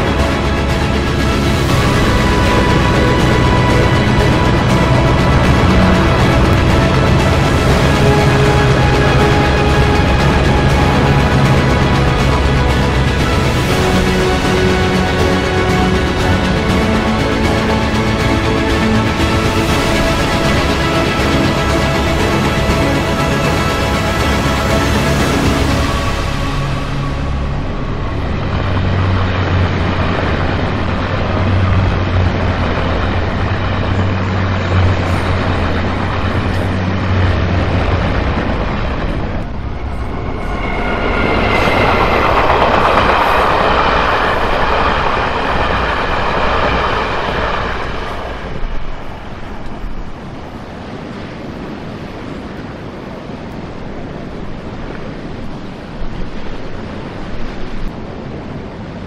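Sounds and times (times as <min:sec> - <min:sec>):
low train drone: 0:00.0 - 0:59.0
train wheel and rail noise: 0:00.0 - 0:59.0.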